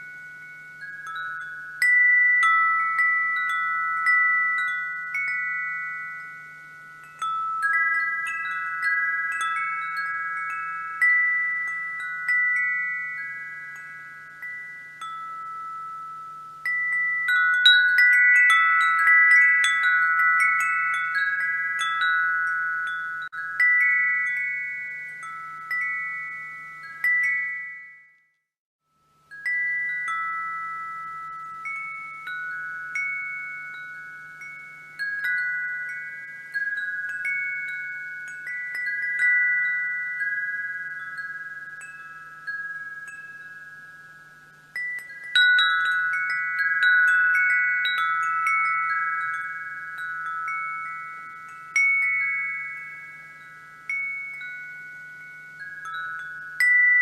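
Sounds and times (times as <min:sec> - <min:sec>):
wind chimes ringing: 0:00.0 - 0:57.0.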